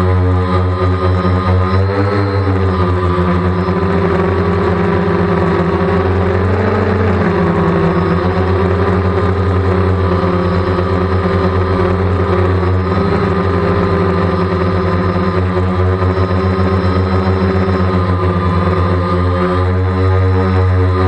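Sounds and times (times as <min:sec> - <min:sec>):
quadcopter propellers droning: 0:00.0 - 0:21.0.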